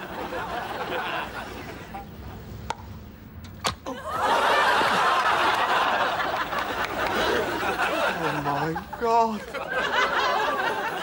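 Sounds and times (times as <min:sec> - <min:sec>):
studio audience laughter: 0:00.0 - 0:02.1, 0:03.9 - 0:11.0.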